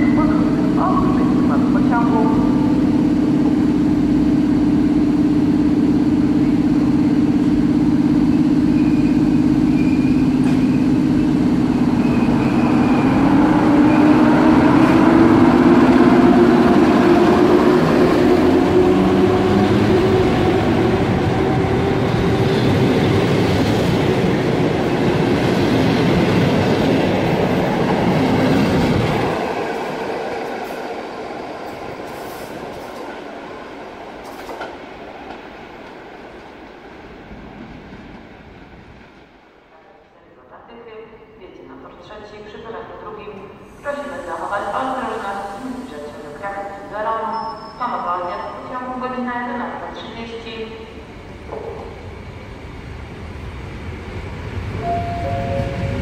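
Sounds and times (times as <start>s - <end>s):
electric locomotive hum: 0.0s - 39.1s, 49.6s - 56.0s
train coaches rumbling: 0.0s - 56.0s.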